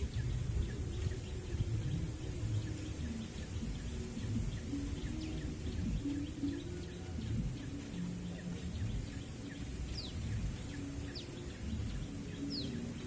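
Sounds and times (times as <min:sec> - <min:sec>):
low background rumble: 0:00.0 - 0:13.0
small bird high chirps: 0:00.0 - 0:13.0.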